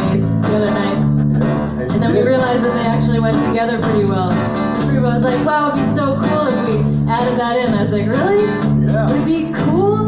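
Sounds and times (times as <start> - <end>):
acoustic guitar strumming: 0.0 - 10.0
fretless bass: 0.0 - 10.0.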